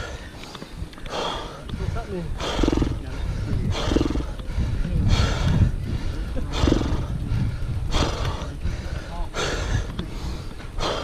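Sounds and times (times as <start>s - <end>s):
heavy laboured breathing: 0.0s - 11.0s
wind rumbling on microphone: 0.0s - 11.0s.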